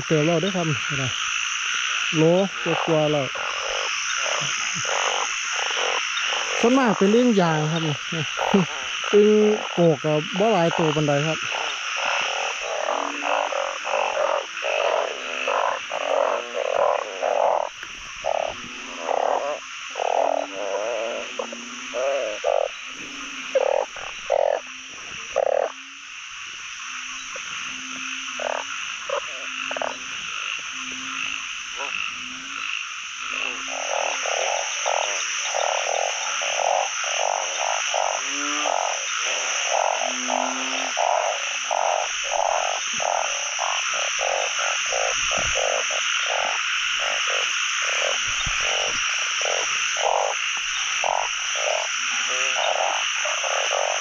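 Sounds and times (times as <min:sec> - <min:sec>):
frogs croaking: 0:00.0 - 0:54.0.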